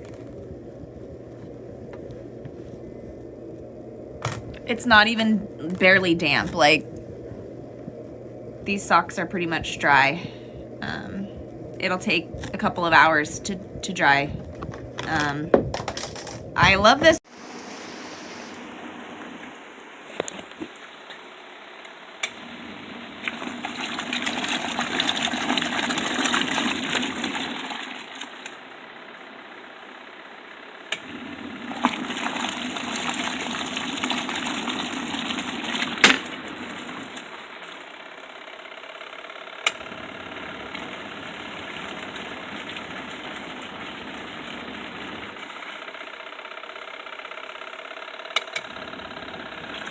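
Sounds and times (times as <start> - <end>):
washing machine running steadily: 0.0 - 49.9
washing machine water churning: 0.0 - 49.9.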